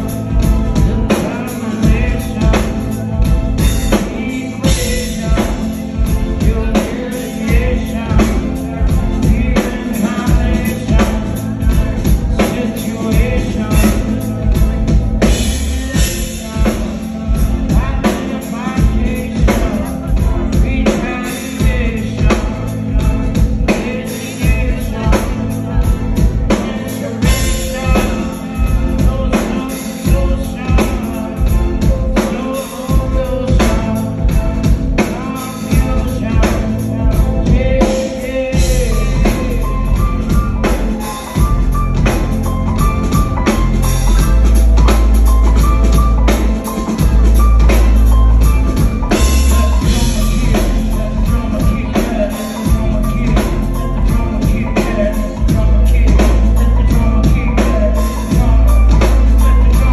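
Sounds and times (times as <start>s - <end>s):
drum kit beat: 0.0s - 59.9s
man singing into microphone: 0.0s - 59.9s.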